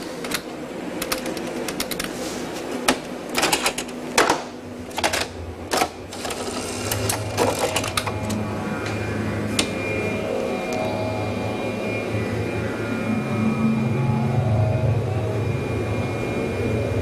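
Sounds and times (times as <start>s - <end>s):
tape machine low hum: 0.0s - 17.0s.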